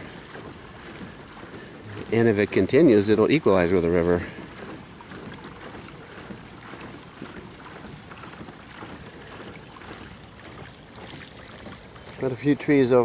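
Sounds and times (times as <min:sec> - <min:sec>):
boat rushing through water: 0:00.0 - 0:13.0.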